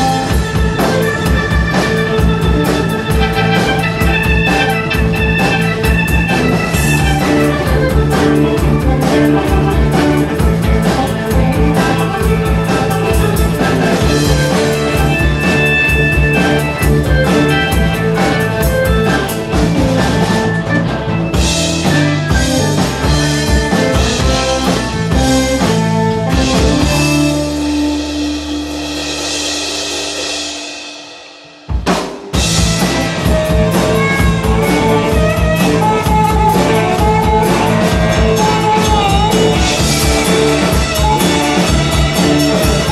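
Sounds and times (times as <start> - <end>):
drum kit: 0.0 - 42.9
electric guitars: 0.0 - 42.9.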